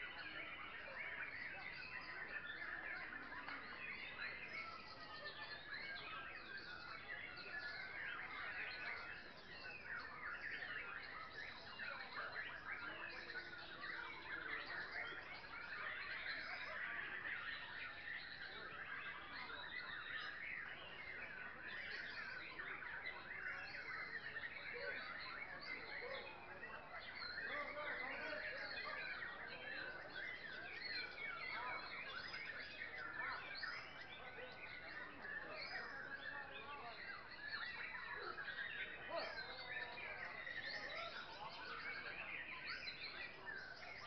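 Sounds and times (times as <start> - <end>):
songbirds chorus of whistles and chirps: 0.0 - 44.0.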